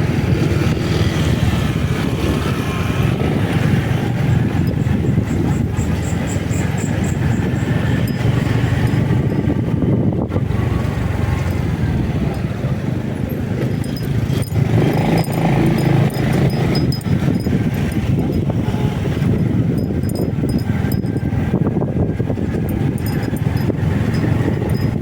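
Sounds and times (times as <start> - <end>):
motorcycle engine drone: 0.0 - 25.0
road noise: 0.0 - 25.0.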